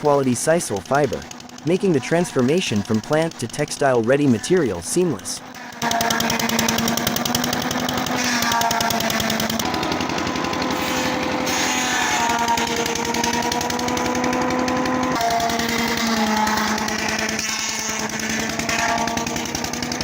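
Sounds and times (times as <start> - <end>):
machine rattling over motor hum: 0.0 - 20.0.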